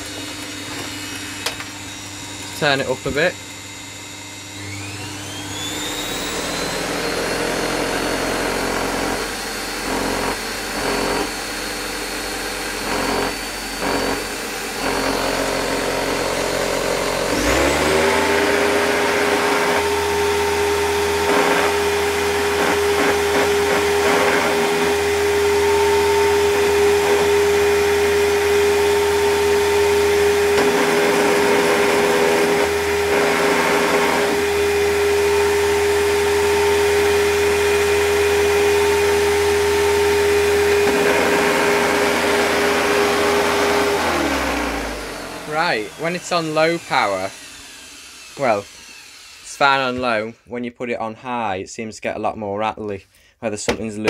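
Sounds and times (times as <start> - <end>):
vacuum cleaner running: 0.0 - 50.3.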